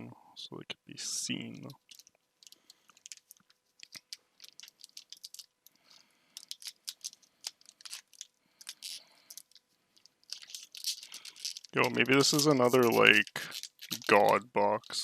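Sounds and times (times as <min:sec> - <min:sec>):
cards rustling: 0:01.7 - 0:15.0.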